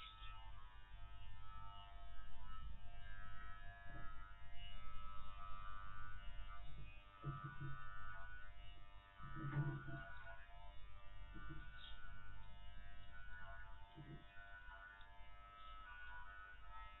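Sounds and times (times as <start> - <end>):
electric hair clipper buzzing: 0.0 - 17.0.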